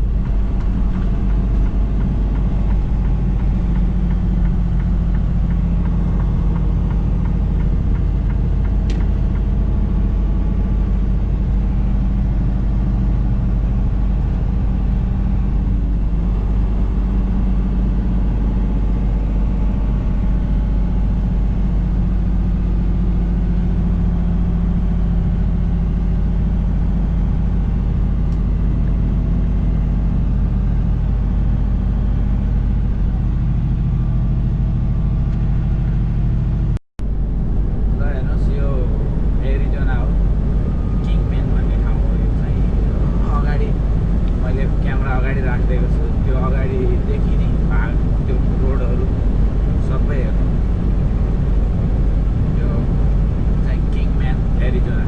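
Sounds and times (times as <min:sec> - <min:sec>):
road rumble: 0:00.0 - 0:55.0
truck diesel engine droning: 0:00.0 - 0:55.0.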